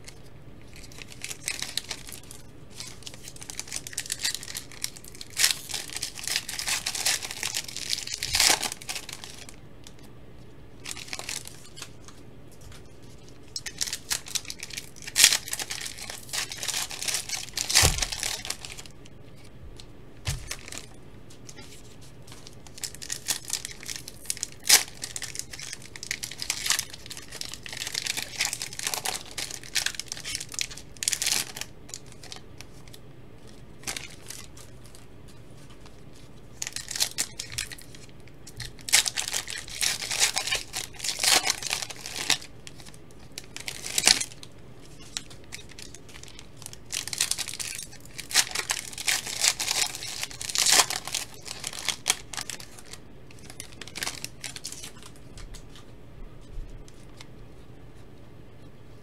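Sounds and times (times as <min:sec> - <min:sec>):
foil wrappers tearing and crinkling: 0:00.0 - 0:10.1, 0:10.8 - 0:19.5, 0:20.3 - 0:55.8.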